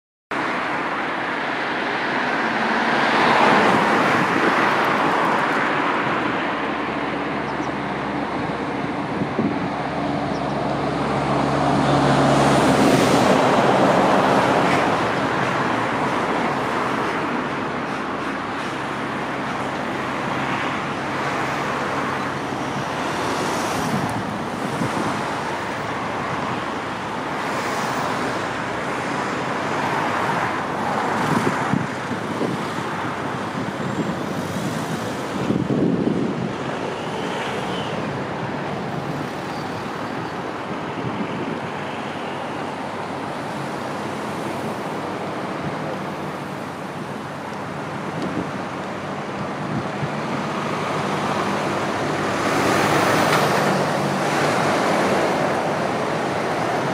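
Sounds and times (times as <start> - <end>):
cars passing: 0.3 - 56.9
road traffic noise: 0.3 - 56.9
vehicle engine hum: 0.3 - 56.9.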